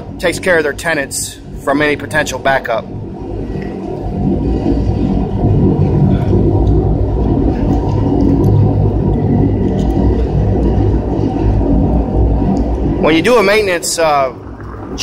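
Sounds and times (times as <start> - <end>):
sewer jetter engine and pump rumble: 0.0 - 15.0.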